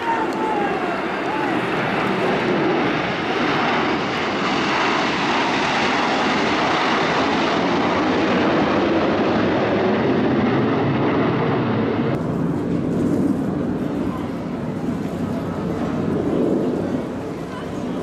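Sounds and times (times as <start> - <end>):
jets flying over: 0.0 - 18.0.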